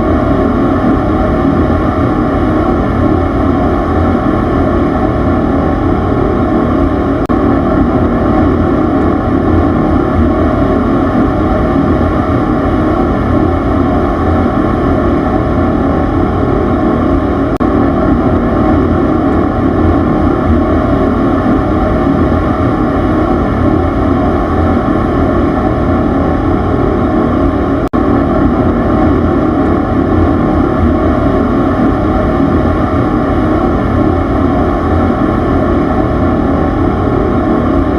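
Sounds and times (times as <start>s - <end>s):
loud machine rumble: 0.0s - 37.9s.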